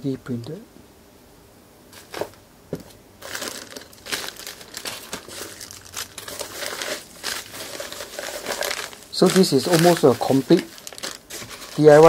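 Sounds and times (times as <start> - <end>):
bubble wrap and bags crinkling: 2.0 - 12.0.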